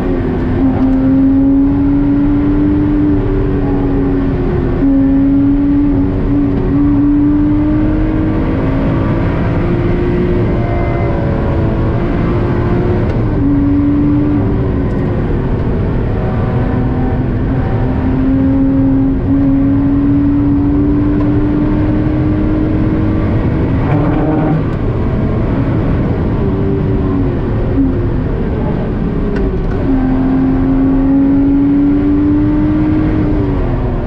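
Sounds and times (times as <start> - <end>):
car engine accelerating: 0.0 - 34.0
road and tyre noise: 0.0 - 34.0.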